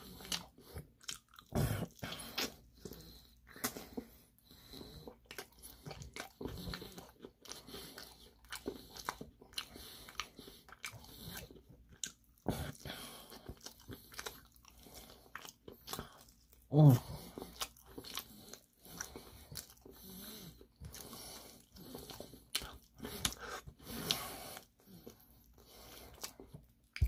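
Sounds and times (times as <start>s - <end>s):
chewing and crunching fried chicken: 0.0s - 27.0s.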